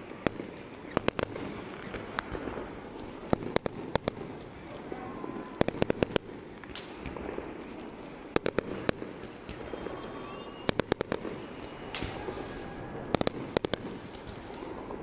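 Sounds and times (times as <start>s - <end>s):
fireworks sharp bangs: 0.0s - 15.0s.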